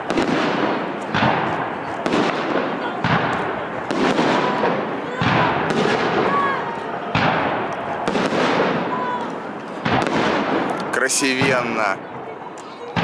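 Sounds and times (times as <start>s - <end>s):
firework crackle: 0.0s - 12.0s.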